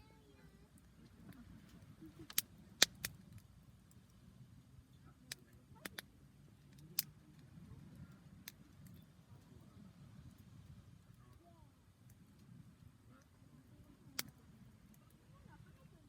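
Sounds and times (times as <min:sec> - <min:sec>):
low fire rumble: 0:00.0 - 0:16.0
campfire crackling and popping: 0:00.1 - 0:16.0.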